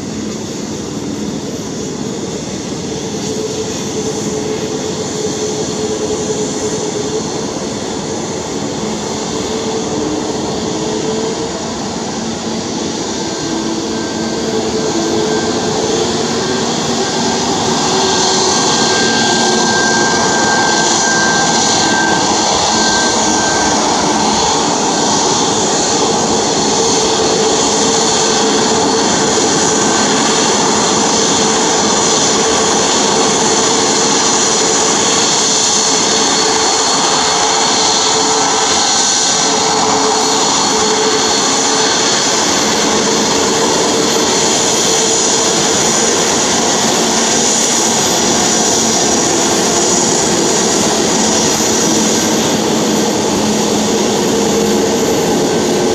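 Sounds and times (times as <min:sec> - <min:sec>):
jet engines at taxi power: 0:00.0 - 0:55.9.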